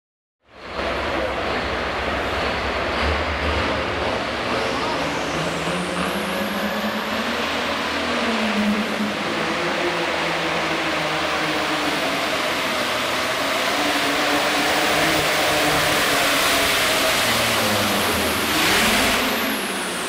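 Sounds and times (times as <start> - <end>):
tractor diesel engine under load: 0.5 - 20.0.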